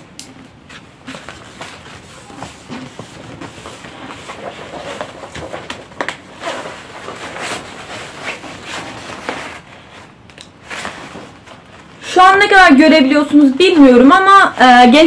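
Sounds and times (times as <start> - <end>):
paper poster rustling and crackling: 0.4 - 15.0.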